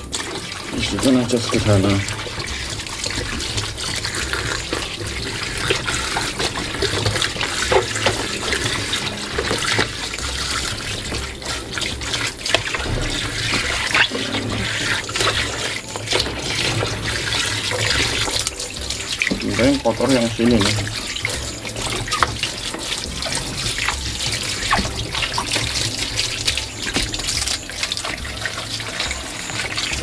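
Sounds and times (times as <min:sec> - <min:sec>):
hand scrubbing knocks and splashes: 0:00.0 - 0:30.0
hose water splashing into tub: 0:00.0 - 0:30.0.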